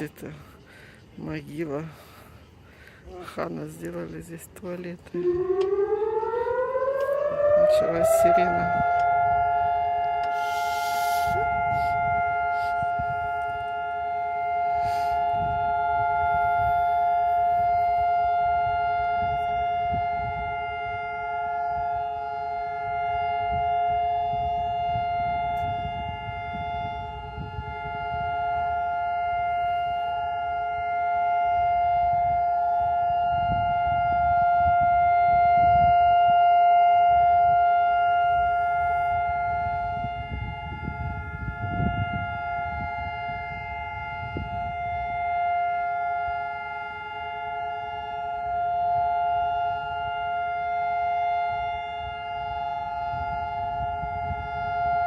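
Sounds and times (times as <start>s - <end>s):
steady siren tone: 0.0s - 55.0s.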